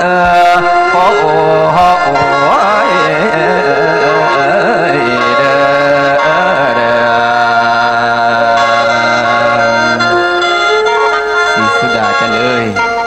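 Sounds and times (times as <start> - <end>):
person singing wavering phrase: 0.0 - 10.4, 11.6 - 12.8
sustained instrumental chords: 0.0 - 13.0.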